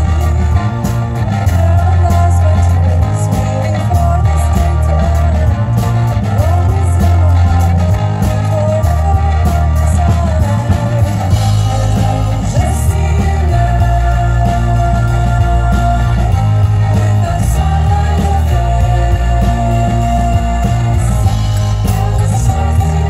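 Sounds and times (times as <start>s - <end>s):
accordion: 0.0s - 23.0s
deep electric bass notes: 0.0s - 23.0s
steady drum beat: 0.0s - 23.0s
synthesizer: 0.0s - 23.0s
woman singing lead: 0.0s - 23.0s.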